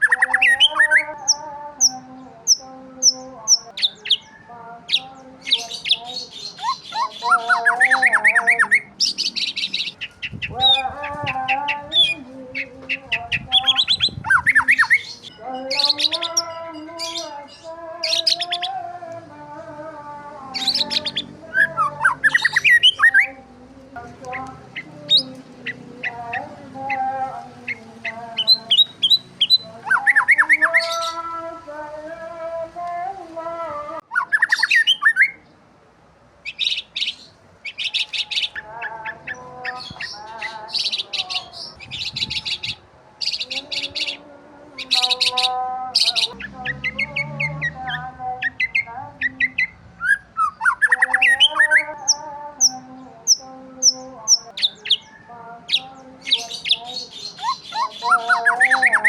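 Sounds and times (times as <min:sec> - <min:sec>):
birds squawking: 0:00.0 - 0:18.8, 0:20.5 - 0:23.4, 0:24.1 - 0:31.3, 0:34.0 - 0:35.4, 0:36.5 - 0:59.0
birds chirping and trilling: 0:00.0 - 0:32.6, 0:33.5 - 0:35.6, 0:36.4 - 0:59.0.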